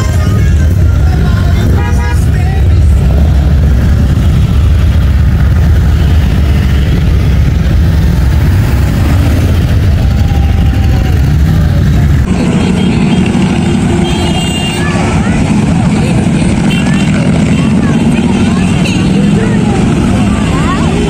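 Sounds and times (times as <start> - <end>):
motorcycle engines rumbling: 0.0 - 21.0.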